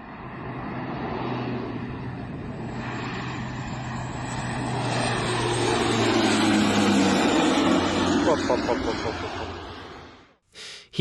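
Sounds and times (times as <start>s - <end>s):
propeller aircraft engine: 0.0s - 10.4s.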